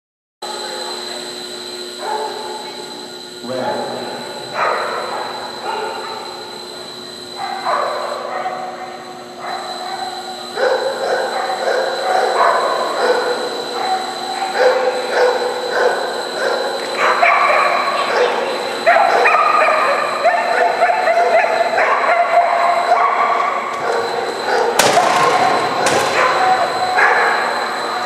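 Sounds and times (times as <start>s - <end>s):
dog barking: 2.0s - 2.6s, 4.5s - 6.4s, 7.4s - 28.0s.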